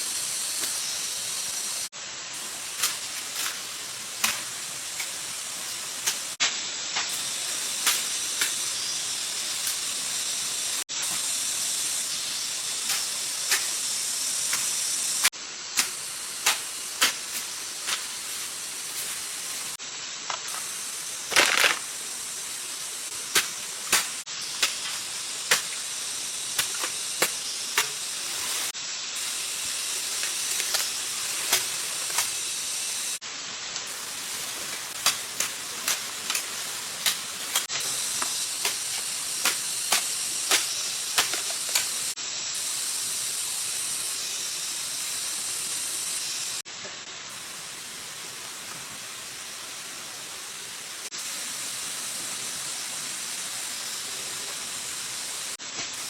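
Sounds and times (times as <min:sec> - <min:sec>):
steady hissing rush: 0:00.0 - 0:56.0.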